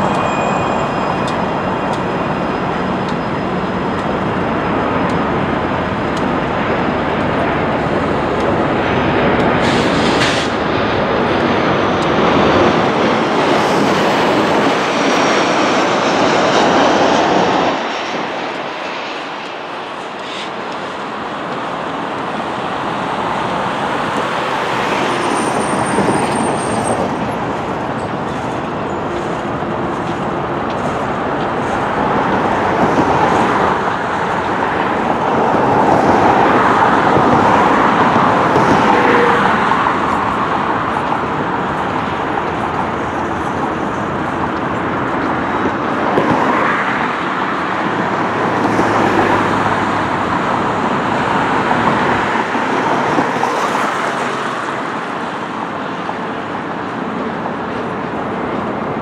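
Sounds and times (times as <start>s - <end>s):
train wheels on rail: 0.0s - 59.0s.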